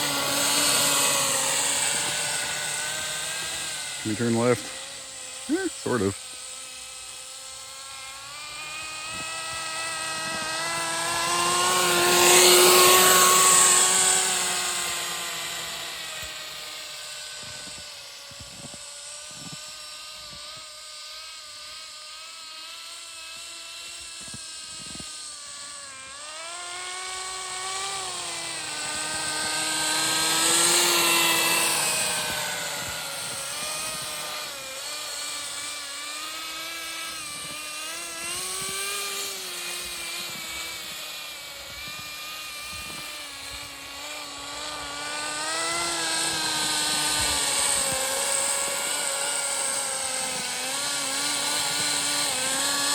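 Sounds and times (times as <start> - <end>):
small nitro engine running: 0.0 - 52.9.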